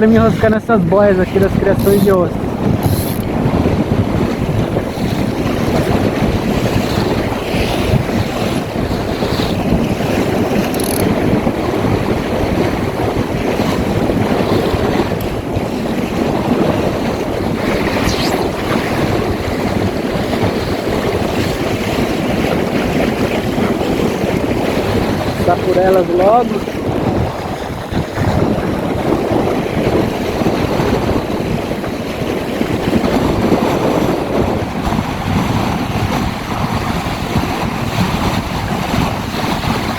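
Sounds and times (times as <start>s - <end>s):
water splashing along hull: 0.0s - 39.9s
wind buffeting microphone: 0.0s - 39.9s.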